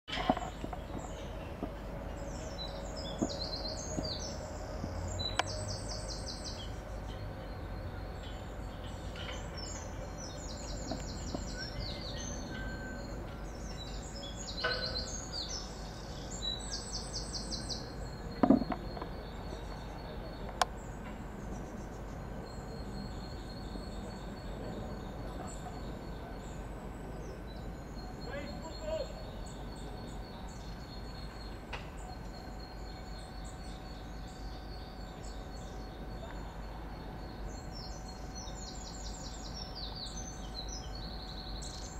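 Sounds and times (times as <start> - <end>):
outdoor background noise: 0.0 - 41.9
small birds trilling: 0.1 - 41.9.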